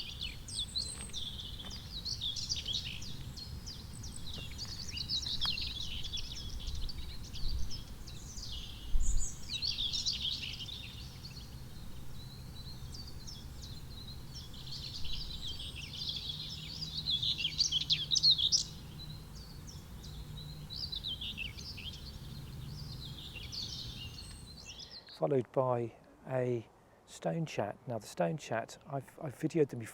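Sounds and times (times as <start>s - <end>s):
bird singing chattering song: 0.0s - 26.6s.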